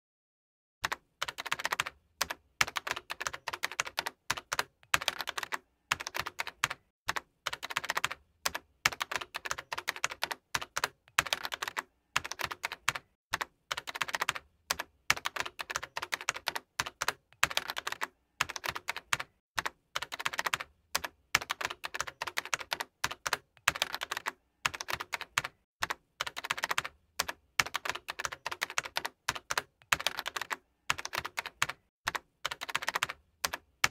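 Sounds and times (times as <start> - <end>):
keyboard typing: 0.8 - 33.9.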